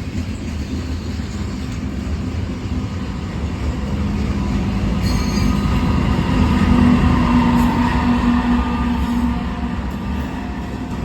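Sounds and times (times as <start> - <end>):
diesel locomotive engine hum: 0.0 - 11.0
freight train rumbling past: 0.0 - 11.0.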